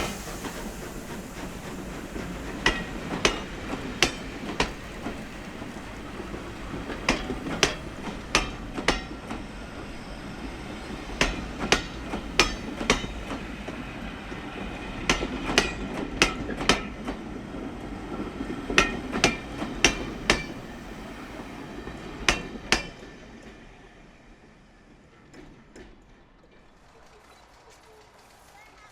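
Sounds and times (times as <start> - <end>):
train wheels clicking over rail joints: 0.0 - 23.8
train rumble: 0.0 - 28.9.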